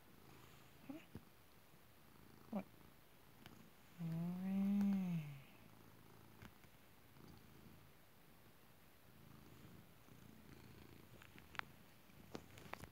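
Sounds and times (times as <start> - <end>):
cat purring: 0.0 - 12.9.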